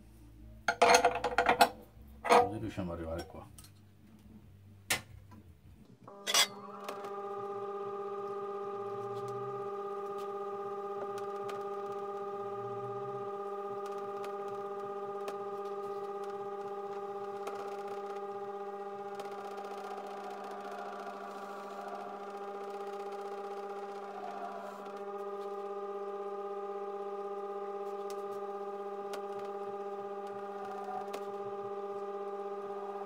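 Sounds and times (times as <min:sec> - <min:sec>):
electric motor humming: 0:06.1 - 0:33.0.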